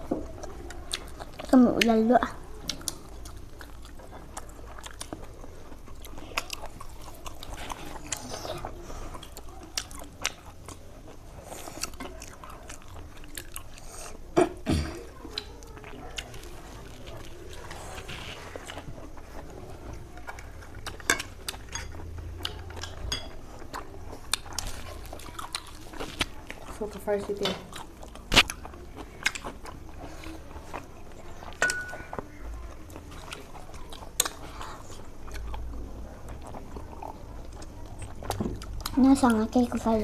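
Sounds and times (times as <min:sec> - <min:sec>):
person chewing and crunching: 0:00.1 - 0:40.0.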